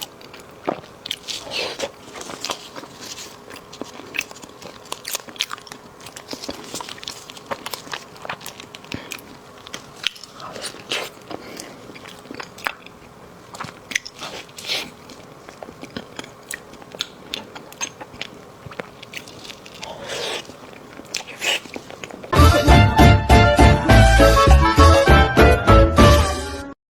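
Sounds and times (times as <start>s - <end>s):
person biting and chewing: 0.0s - 22.4s.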